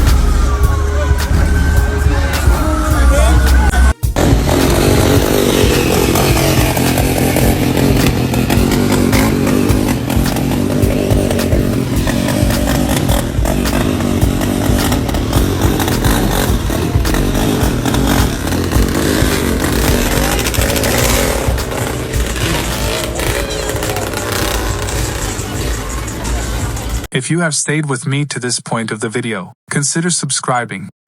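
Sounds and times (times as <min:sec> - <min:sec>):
vehicle engine revving: 0:00.0 - 0:27.1.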